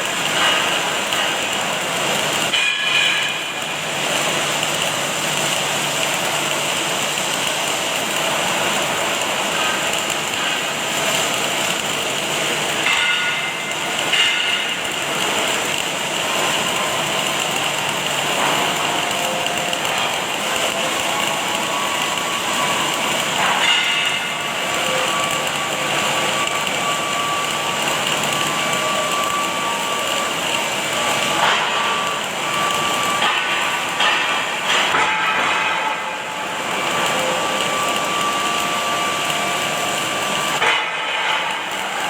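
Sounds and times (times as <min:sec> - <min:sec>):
welding crackles: 0:00.0 - 0:42.0
welding machine hissing: 0:00.0 - 0:42.0.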